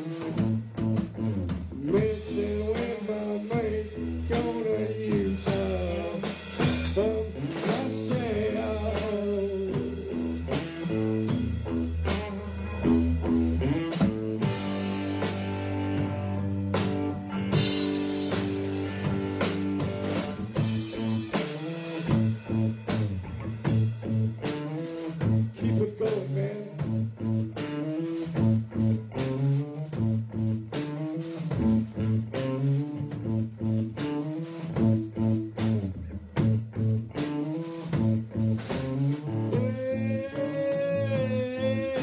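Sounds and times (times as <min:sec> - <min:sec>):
electric guitar bending notes: 0:00.0 - 0:26.0, 0:26.8 - 0:42.0
drums and cymbals: 0:00.0 - 0:42.0
walking bass: 0:00.0 - 0:42.0.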